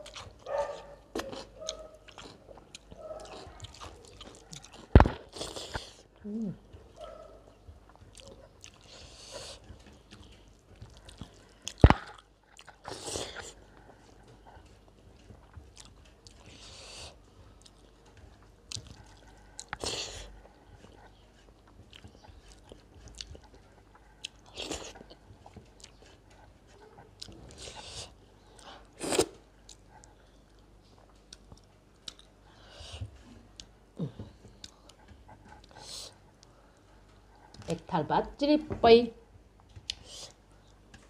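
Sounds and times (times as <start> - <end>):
chewing food: 0.0 - 37.8.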